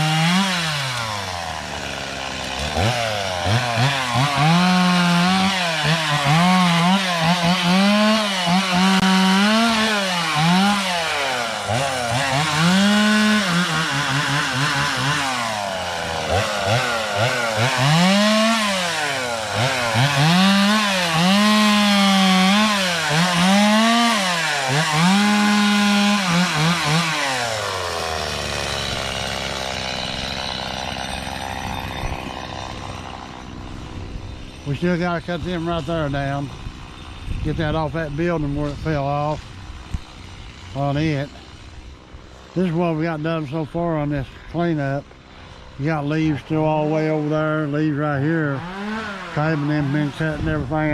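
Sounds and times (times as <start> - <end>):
chainsaw revving cutting wood: 0.0 - 50.9.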